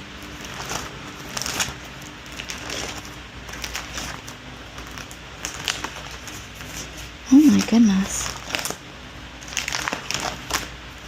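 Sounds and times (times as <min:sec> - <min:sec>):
paper rustling and scraping: 0:00.2 - 0:08.8, 0:09.4 - 0:11.0.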